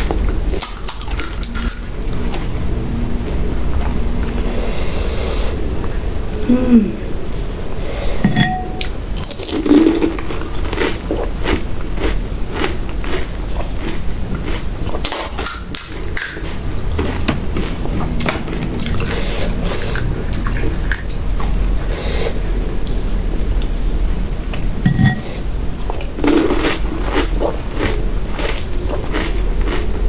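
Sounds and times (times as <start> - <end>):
crunching and chewing crisp shells: 0.0 - 5.5, 8.5 - 30.0.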